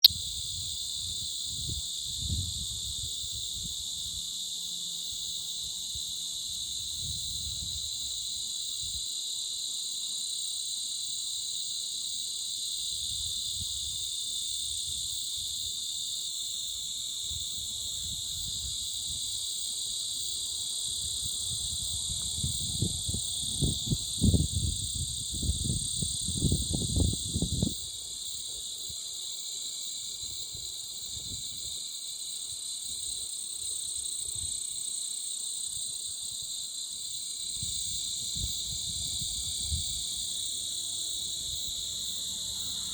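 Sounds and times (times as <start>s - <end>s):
insect chorus droning: 0.0s - 42.9s.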